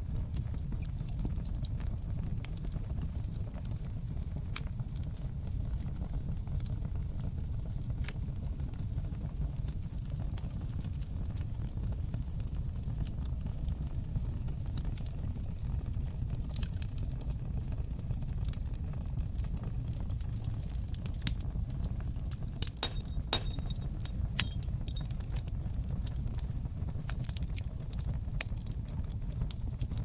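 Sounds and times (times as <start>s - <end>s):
fire pops and snaps: 0.0s - 30.0s
fire rumbling in fireplace: 0.0s - 30.0s.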